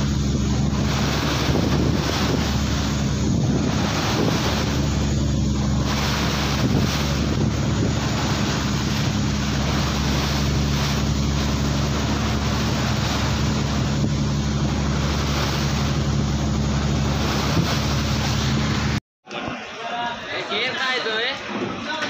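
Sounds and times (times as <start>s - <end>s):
wind on microphone: 0.0s - 19.0s
boat engine running: 0.0s - 22.0s
sea wash: 0.0s - 22.0s.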